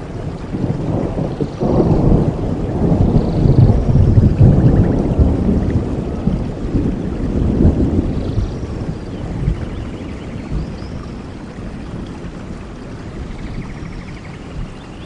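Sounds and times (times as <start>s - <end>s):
steady rain: 0.0s - 15.0s
thunder rumbling: 0.0s - 15.0s.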